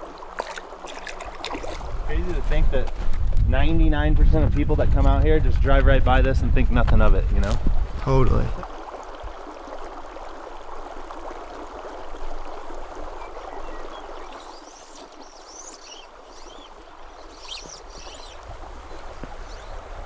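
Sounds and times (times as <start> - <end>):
creek running over riffle: 0.0 - 3.4, 4.1 - 20.0.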